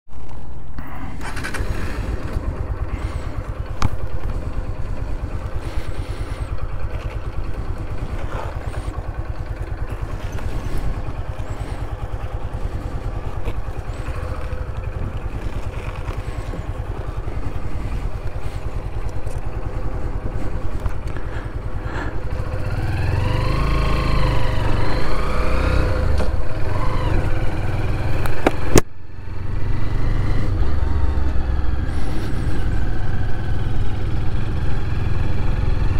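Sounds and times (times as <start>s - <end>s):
motorcycle engine revving: 0.8s - 35.9s.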